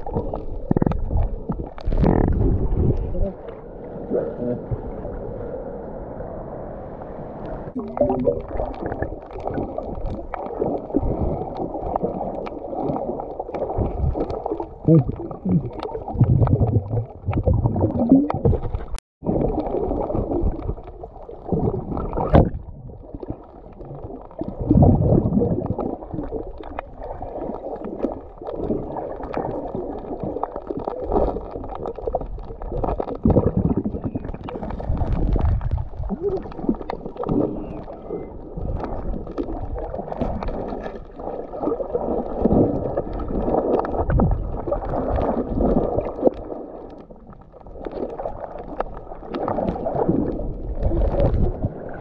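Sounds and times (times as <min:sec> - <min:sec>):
underwater swishing and gurgling: 0:00.0 - 0:52.0.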